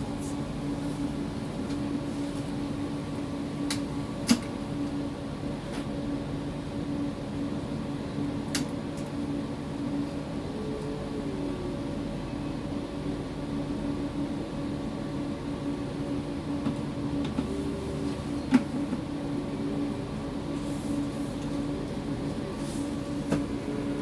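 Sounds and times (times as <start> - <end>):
tram cabin hum: 0.0 - 24.0.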